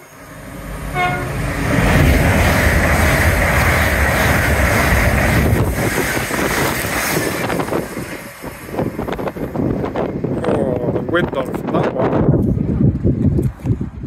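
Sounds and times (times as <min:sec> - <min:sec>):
train passing rumble: 0:00.0 - 0:13.1
wind buffeting microphone: 0:00.1 - 0:14.0.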